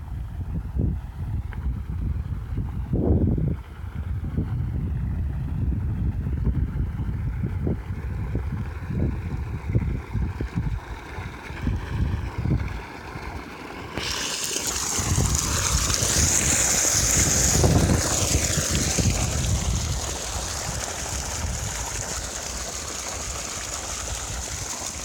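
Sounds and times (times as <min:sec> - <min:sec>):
wind buffeting microphone: 0:00.0 - 0:12.8, 0:14.0 - 0:22.6.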